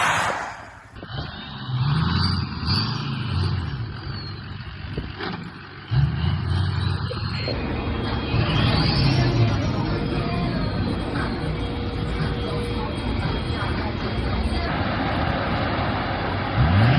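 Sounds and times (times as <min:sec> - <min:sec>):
diesel truck engine running: 0:00.9 - 0:16.9.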